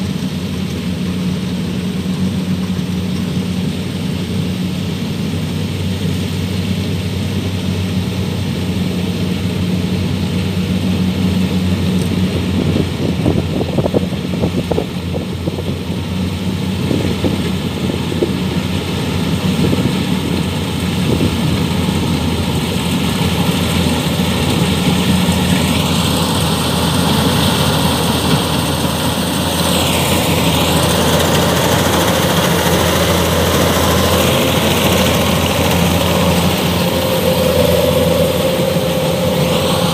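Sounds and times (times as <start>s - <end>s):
combine harvester diesel drone: 0.0s - 39.9s
high whine: 0.0s - 39.9s.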